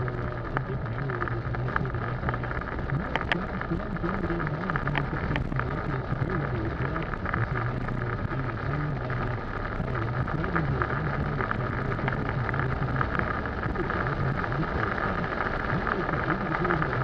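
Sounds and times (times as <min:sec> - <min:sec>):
car engine drone: 0:00.0 - 0:17.0
heavy rain on car: 0:00.0 - 0:17.0
tyres hissing on wet road: 0:00.0 - 0:17.0.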